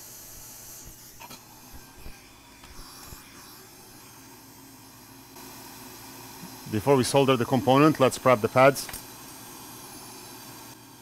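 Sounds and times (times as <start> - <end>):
hot-air blower hissing: 0.0 - 11.0.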